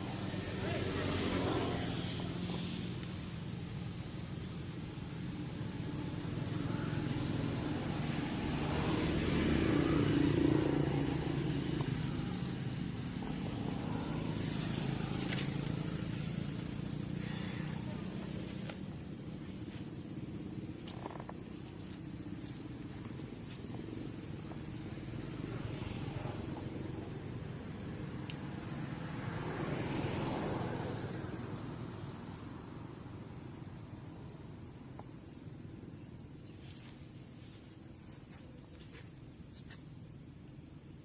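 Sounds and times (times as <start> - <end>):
low engine rumble: 0.0 - 41.0.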